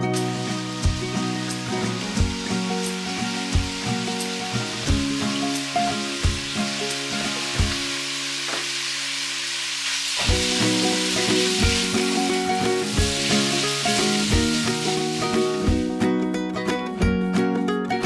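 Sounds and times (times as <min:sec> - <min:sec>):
meat and tomato sizzling in pan: 0:00.0 - 0:16.0
background music: 0:00.0 - 0:18.0.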